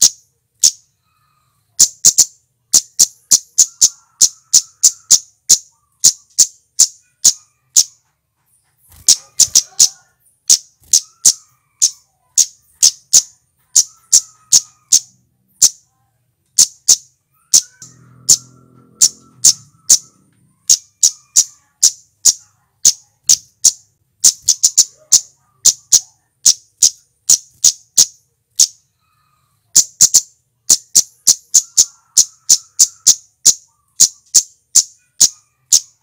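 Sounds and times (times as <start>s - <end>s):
bird high-pitched chips: 0.0s - 36.0s.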